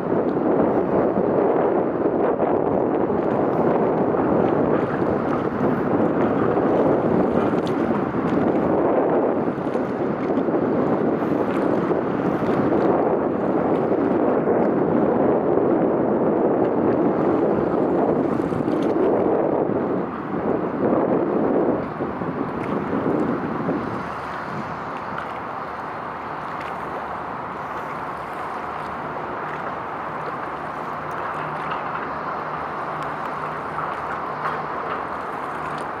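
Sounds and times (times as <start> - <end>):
wind rushing on microphone: 0.0 - 36.0.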